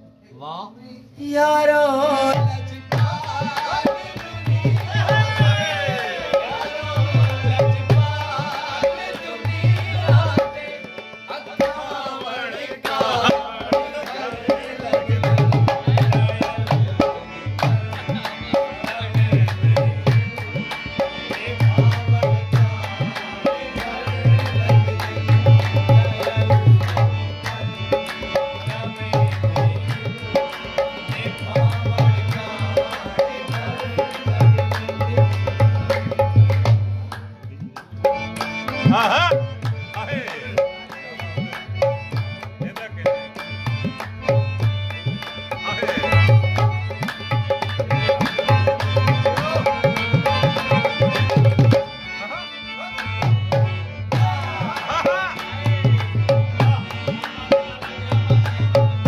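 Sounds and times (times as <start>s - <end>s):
harmonium: 0.0s - 59.0s
man singing: 0.1s - 36.7s, 37.3s - 59.0s.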